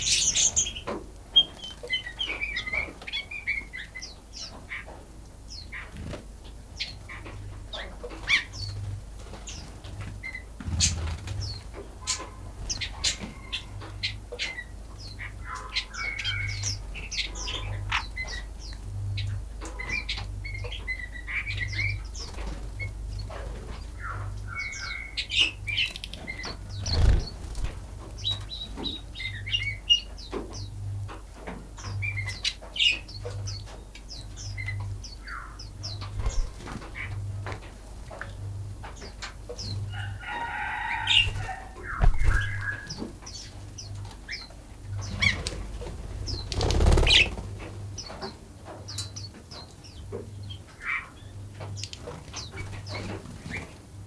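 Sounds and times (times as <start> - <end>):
small birds chirping: 0.0 - 53.8.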